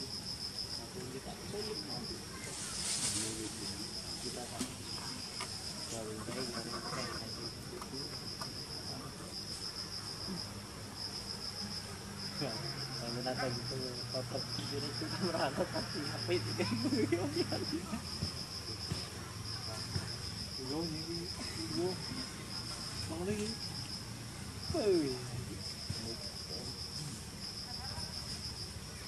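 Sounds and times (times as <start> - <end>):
insects chirping: 0.0 - 29.0.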